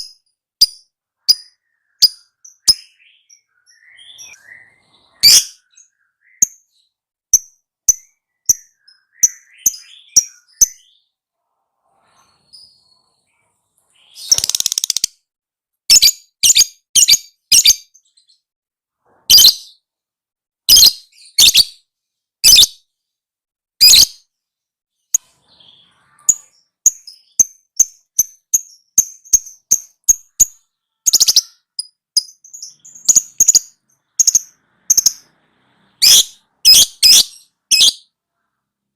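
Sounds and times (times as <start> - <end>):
bird chirping: 0.0 - 15.3, 15.9 - 19.9, 20.7 - 22.9, 23.8 - 24.3, 24.9 - 38.9.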